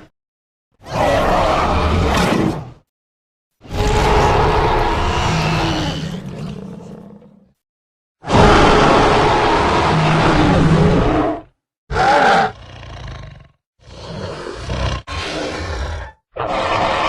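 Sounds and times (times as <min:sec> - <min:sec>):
dinosaur roar: 0:00.8 - 0:02.6, 0:03.6 - 0:07.6, 0:08.2 - 0:17.0.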